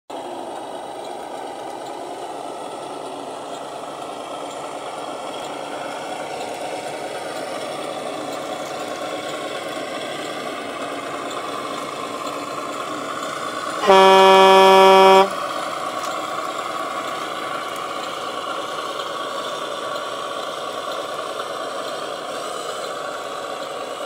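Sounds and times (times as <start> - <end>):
simulated diesel truck engine: 0.1 - 24.0.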